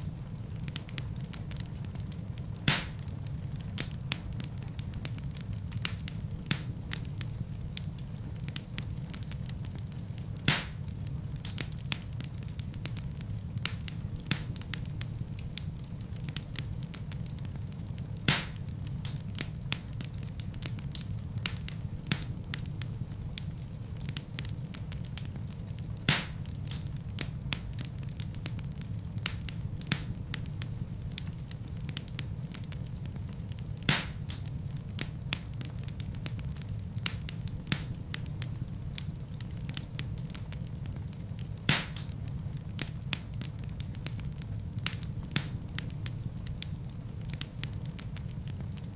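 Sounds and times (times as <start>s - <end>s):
wood fire crackling and popping: 0.0s - 48.9s.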